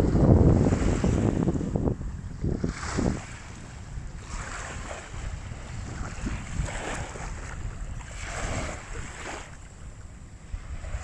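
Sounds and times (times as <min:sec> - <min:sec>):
small waves washing on beach: 0:00.0 - 0:11.0
wind rumbling on microphone: 0:00.0 - 0:11.0.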